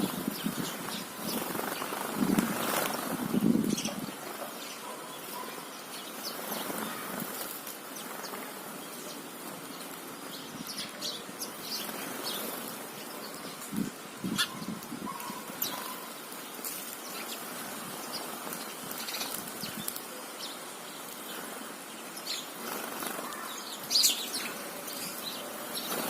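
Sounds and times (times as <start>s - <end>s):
background hiss: 0.0s - 26.0s
sparrows chirping: 0.0s - 26.0s.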